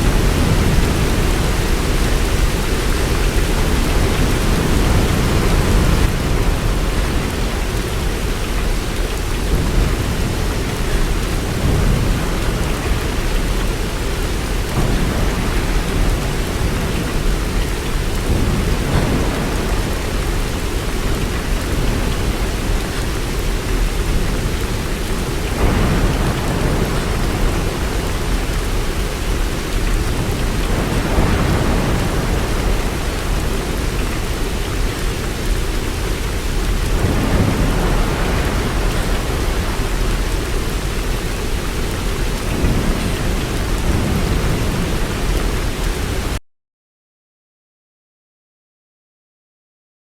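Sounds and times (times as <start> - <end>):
heavy rain falling: 0.0 - 46.4
low rolls of thunder: 0.0 - 46.4.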